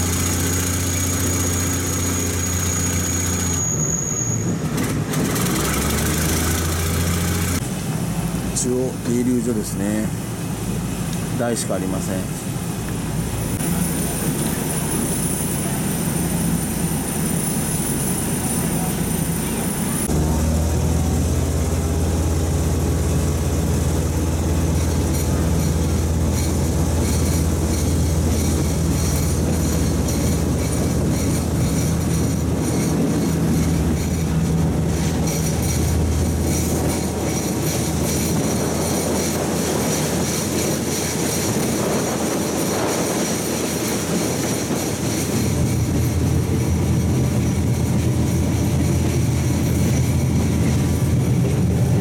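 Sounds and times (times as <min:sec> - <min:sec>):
railcar engine drone: 0:00.0 - 0:52.0
wheels on rail: 0:00.0 - 0:52.0.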